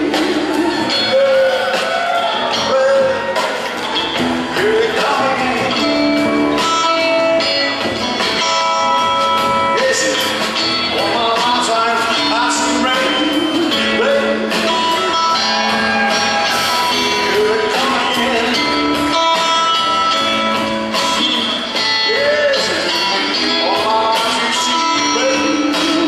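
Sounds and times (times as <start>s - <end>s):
double bass: 0.0s - 26.0s
drum kit: 0.0s - 26.0s
electric guitar: 0.0s - 26.0s.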